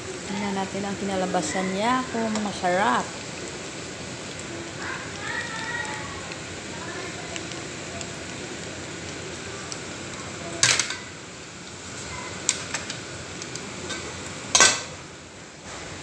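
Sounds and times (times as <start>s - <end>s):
fries sizzling in hot oil: 0.0s - 16.0s.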